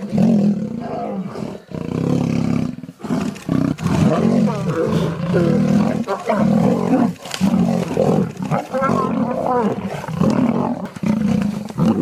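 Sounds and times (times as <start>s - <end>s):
big cat roaring: 0.0s - 12.0s.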